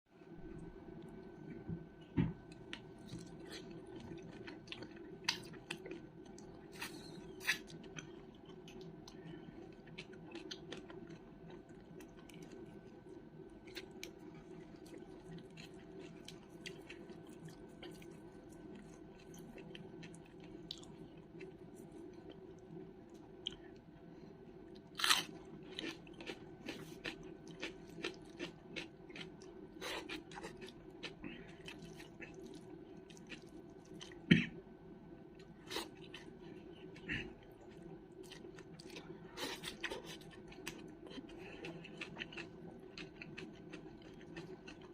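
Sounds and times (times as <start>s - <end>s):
low electrical hum: 0.1s - 44.9s
chewing and crunching: 2.5s - 23.9s, 24.7s - 34.3s, 35.4s - 44.9s.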